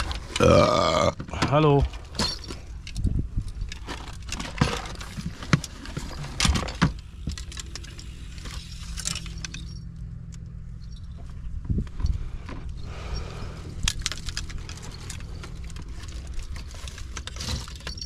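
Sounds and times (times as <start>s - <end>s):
gear clinking and rattling: 0.0s - 18.0s
steady low hum: 0.0s - 18.0s.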